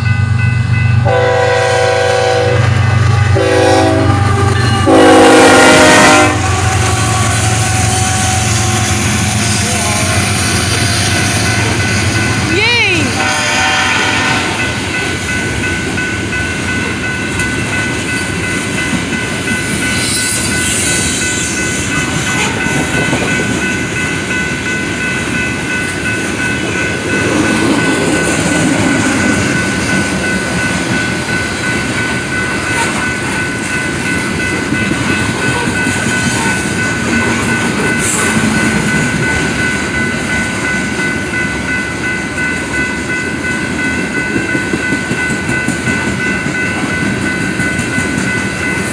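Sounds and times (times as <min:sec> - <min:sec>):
steady high tone: 0:00.0 - 0:48.9
train rumbling over rails: 0:00.0 - 0:48.9.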